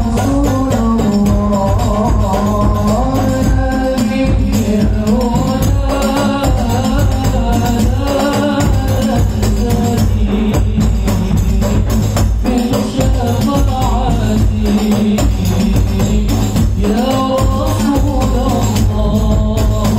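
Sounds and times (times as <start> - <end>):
barrel bass drums: 0.0 - 19.9
frame drums beating: 0.0 - 19.9
voices singing a melody: 0.0 - 19.9.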